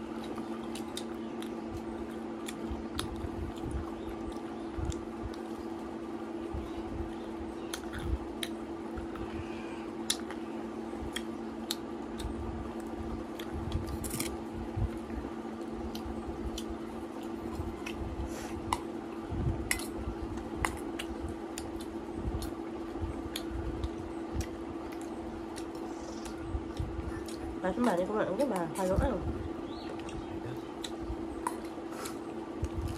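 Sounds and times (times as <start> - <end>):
crunching and chewing food: 0.0 - 32.9
steady low hum: 0.0 - 32.9.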